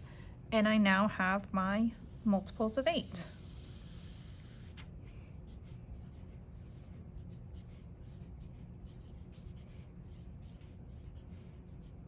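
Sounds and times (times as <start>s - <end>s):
low steady hum: 0.0s - 12.0s
pencil scratching on paper: 1.8s - 12.0s.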